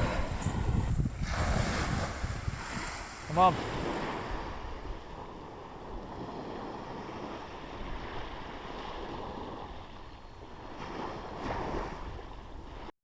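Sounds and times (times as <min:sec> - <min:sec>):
surf washing onto beach: 0:00.0 - 0:12.9
wind on microphone: 0:00.0 - 0:12.9.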